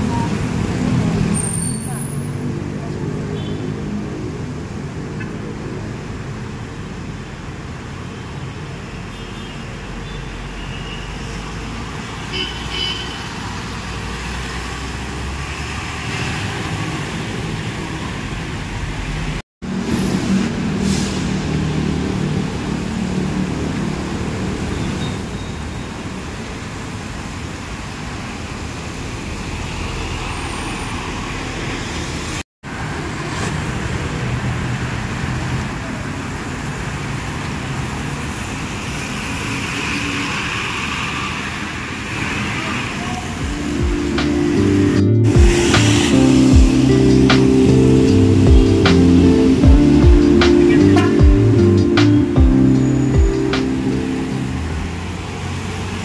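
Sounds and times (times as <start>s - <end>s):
buses driving past: 0.0s - 56.0s.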